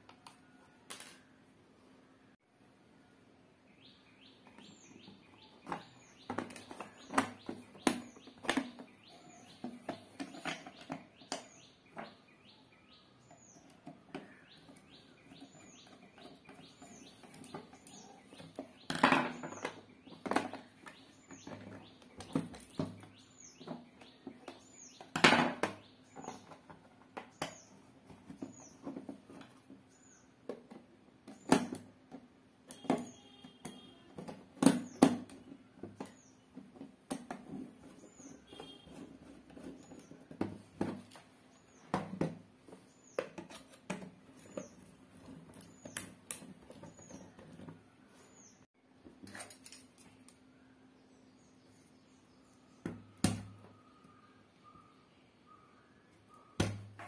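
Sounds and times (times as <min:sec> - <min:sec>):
bird chirping: 0:03.6 - 0:30.5, 0:32.7 - 0:48.7, 0:50.1 - 0:57.0.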